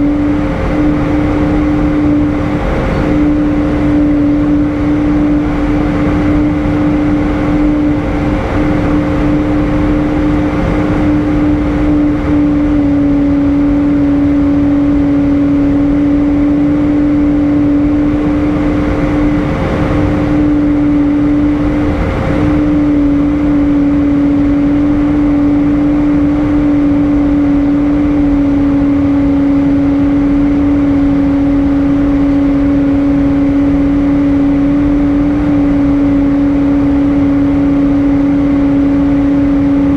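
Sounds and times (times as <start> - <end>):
airplane cabin engine noise: 0.0 - 39.9.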